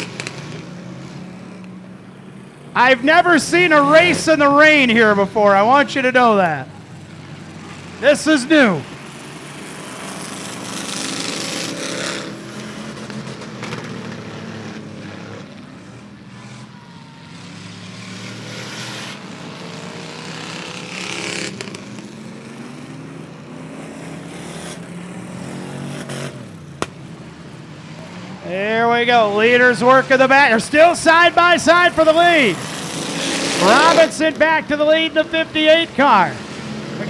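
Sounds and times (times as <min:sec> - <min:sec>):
race car engines: 0:00.0 - 0:37.0.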